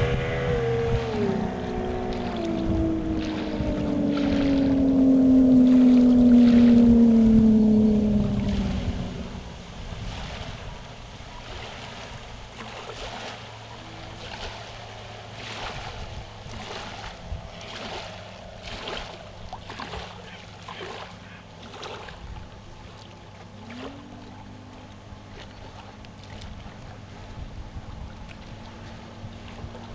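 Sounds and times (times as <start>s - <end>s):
boat wake splashing against bank: 0.0s - 29.9s
distant boat engine droning: 0.0s - 29.9s.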